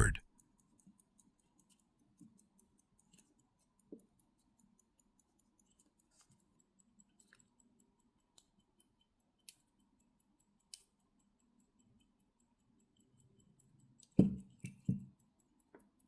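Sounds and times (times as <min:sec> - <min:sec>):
watch ticking: 0:00.0 - 0:16.0
small metal clicks and taps: 0:00.4 - 0:16.0.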